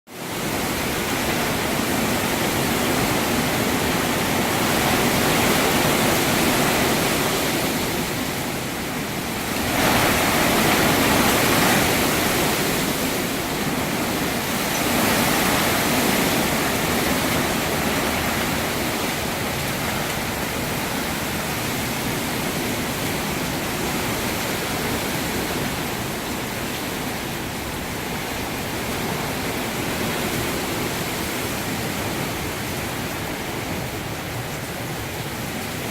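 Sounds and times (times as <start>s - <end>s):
heavy rain: 0.1s - 35.9s
hurricane wind: 0.1s - 35.9s.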